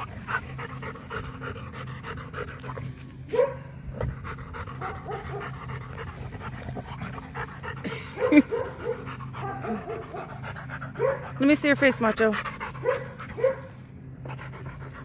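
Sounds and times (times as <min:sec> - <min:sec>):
dog panting: 0:00.0 - 0:03.2, 0:03.9 - 0:15.0.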